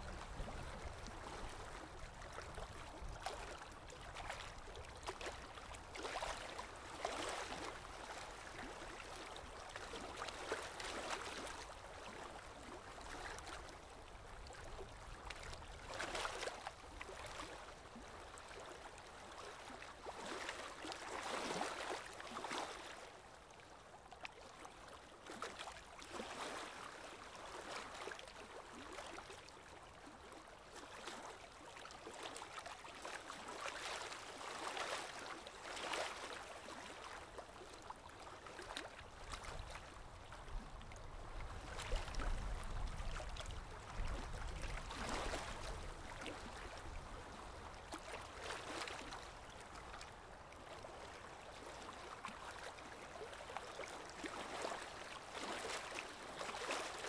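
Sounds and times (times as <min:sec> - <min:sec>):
lake water lapping: 0:00.0 - 0:57.0.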